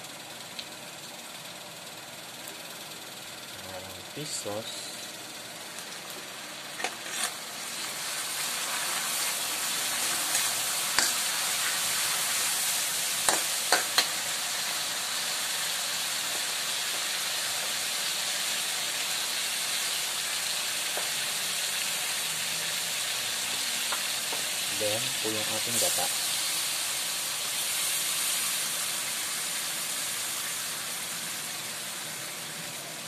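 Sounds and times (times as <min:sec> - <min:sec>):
onions frying in oil: 0:00.0 - 0:33.0.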